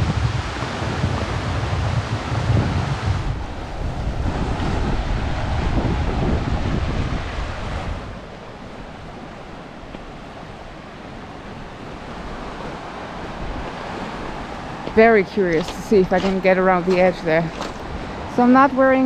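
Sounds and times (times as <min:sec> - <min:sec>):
waves washing against shore: 0:00.0 - 0:19.0
wind gusting on microphone: 0:00.0 - 0:19.0.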